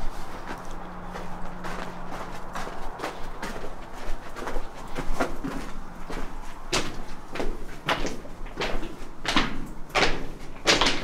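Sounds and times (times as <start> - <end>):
footsteps crunching on rubble: 0.0 - 11.0.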